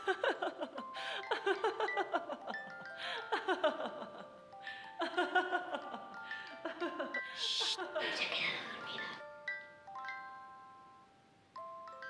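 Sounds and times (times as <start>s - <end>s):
tinkling mallet percussion music: 0.0s - 12.0s.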